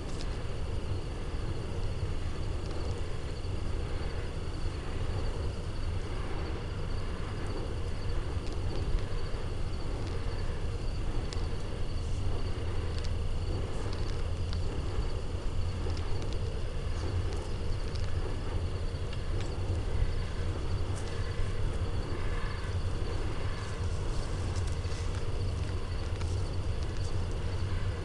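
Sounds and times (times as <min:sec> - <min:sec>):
faint ticks: 0:00.0 - 0:00.5, 0:06.0 - 0:28.0
low rumble: 0:00.0 - 0:28.0
night insects chirring: 0:00.0 - 0:28.0.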